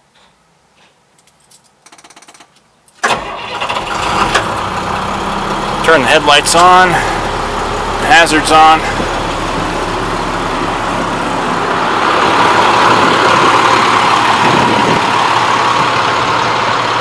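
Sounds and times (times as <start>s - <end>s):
bus diesel engine idling: 3.0s - 17.0s.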